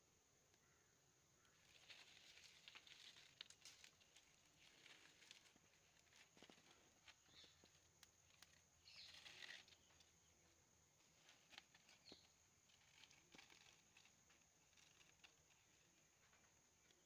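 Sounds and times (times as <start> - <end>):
dry sticks rustling: 1.6 - 10.1, 11.0 - 17.0.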